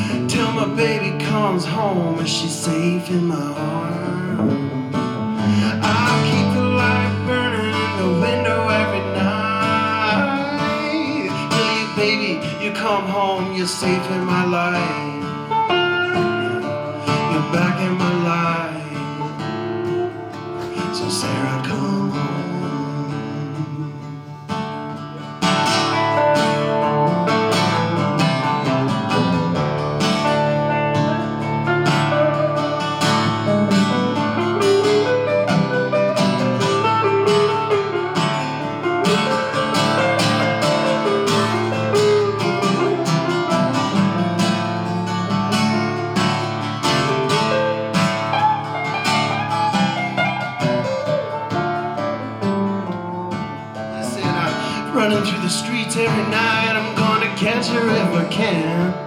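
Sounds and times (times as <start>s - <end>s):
bending melodic guitar lead: 0.0s - 59.0s
strummed acoustic guitar: 0.0s - 59.0s.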